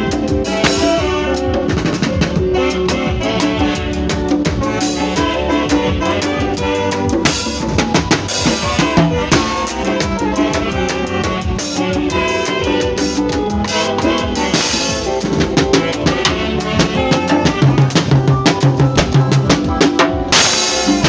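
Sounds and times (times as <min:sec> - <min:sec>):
drum kit beat: 0:00.0 - 0:21.0
electronic keyboard: 0:00.0 - 0:21.0
live band playing: 0:00.0 - 0:21.0
saxophone: 0:00.0 - 0:21.0.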